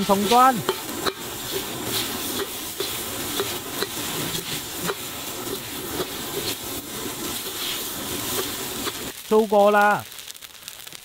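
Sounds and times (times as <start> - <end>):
noodles sizzling in a wok: 0.0 - 11.0.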